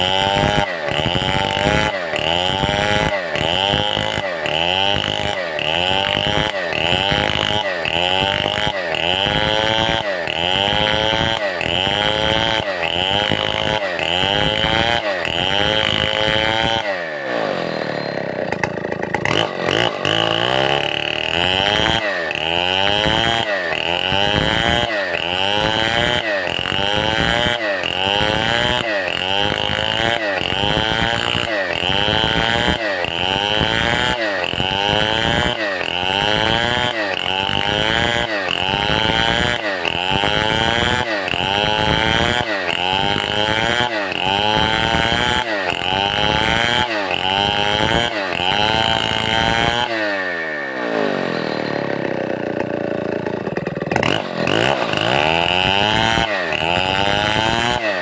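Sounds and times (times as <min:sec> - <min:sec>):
chainsaw sawing timber: 0:00.0 - 0:58.0.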